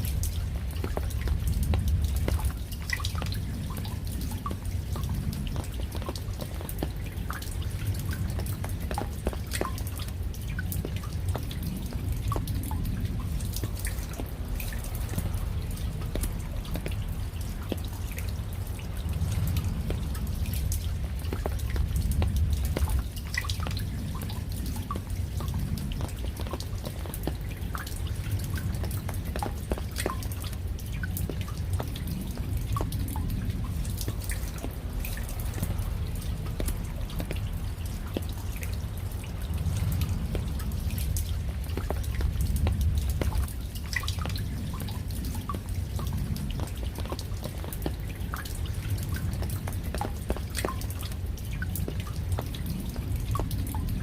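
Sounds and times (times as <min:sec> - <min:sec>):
low steady rumble: 0:00.0 - 0:54.0
raindrops ticking and dripping: 0:00.0 - 0:54.0.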